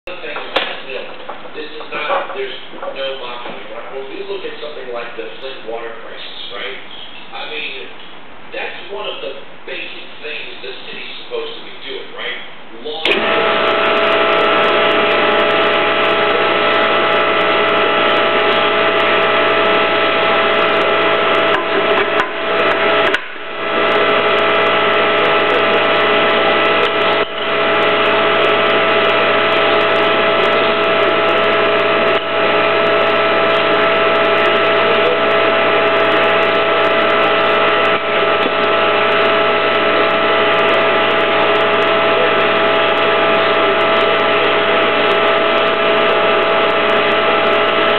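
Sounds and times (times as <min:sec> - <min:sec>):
hydraulic machine drone: 0:00.1 - 0:08.0, 0:12.7 - 0:47.9.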